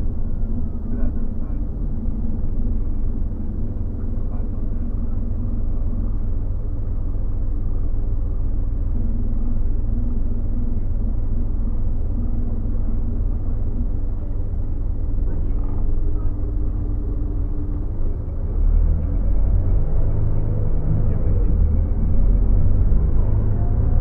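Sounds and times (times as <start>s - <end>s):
bus engine rumble: 0.0s - 24.0s
faint hum: 0.0s - 24.0s.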